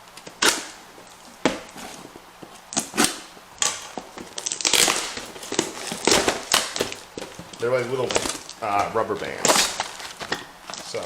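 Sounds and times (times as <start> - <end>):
tape and cardboard ripping: 0.0 - 11.0.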